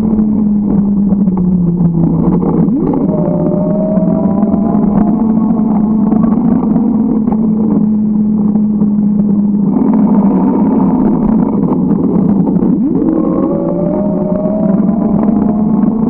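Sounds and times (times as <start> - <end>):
road noise: 0.0 - 16.0
vehicle engine humming: 0.0 - 16.0.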